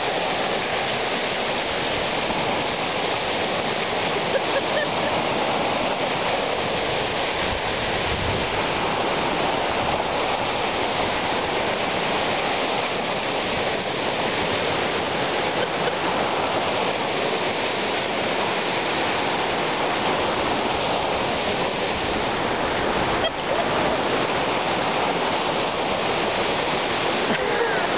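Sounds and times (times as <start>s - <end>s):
waves washing on sandy shore: 0.0s - 27.9s.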